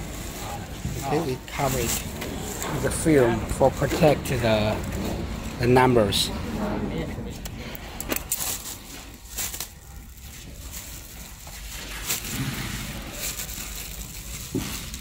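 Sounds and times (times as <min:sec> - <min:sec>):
plastic film crinkling: 0:00.0 - 0:05.6, 0:08.1 - 0:15.0.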